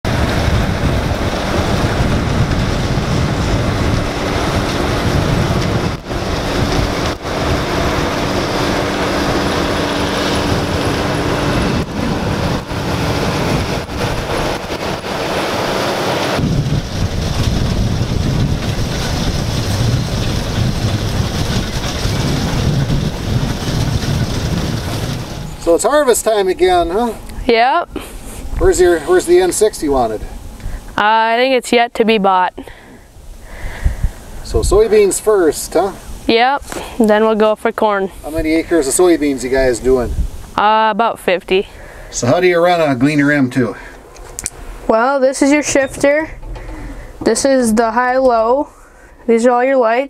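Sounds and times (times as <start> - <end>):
combine harvester drone: 0.0 - 31.8, 32.4 - 49.4.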